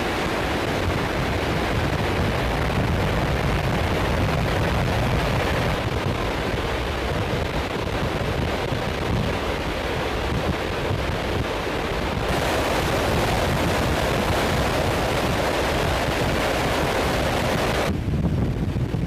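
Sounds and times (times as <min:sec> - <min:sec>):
aircraft engine and airflow rushing: 0:00.0 - 0:19.0.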